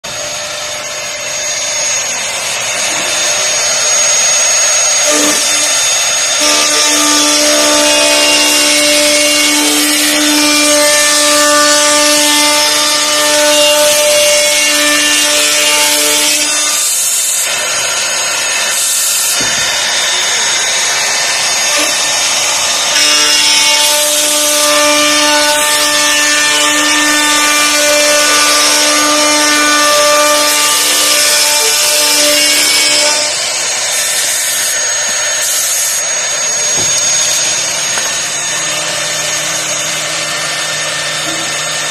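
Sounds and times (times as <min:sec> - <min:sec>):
router cutting plywood: 0:00.0 - 0:41.9
router spindle whine: 0:00.0 - 0:41.9.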